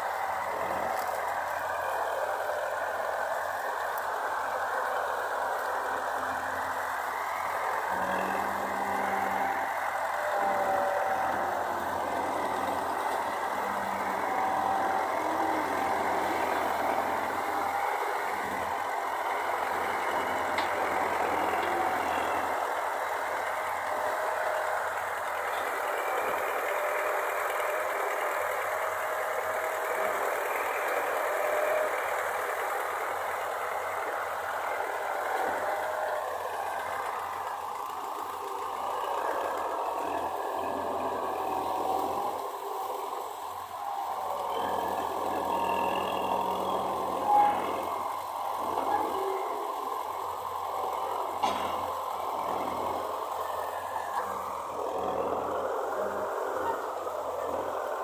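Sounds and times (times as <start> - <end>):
farm machinery engine running: 0.0 - 58.0.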